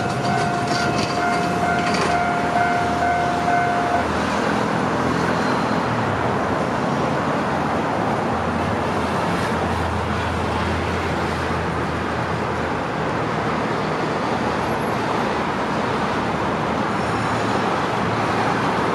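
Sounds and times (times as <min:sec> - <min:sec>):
low traffic rumble: 0:00.0 - 0:18.9
vehicles passing: 0:00.0 - 0:18.9.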